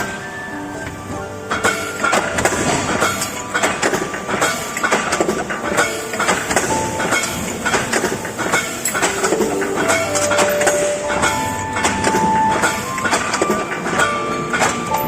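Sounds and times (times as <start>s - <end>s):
punching machine clattering metallic knocks: 1.5s - 15.0s.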